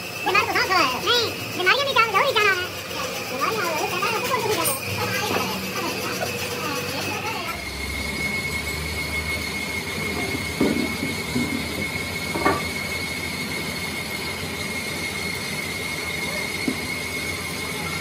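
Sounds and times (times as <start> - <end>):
workshop machine whining: 0.0 - 18.0.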